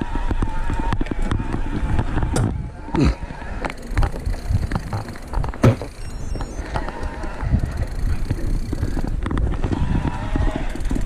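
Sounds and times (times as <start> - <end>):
bike rattling over bumps: 0.0 - 11.0
bike tyres rumbling on trail: 0.0 - 11.0
wind on microphone: 0.0 - 11.0.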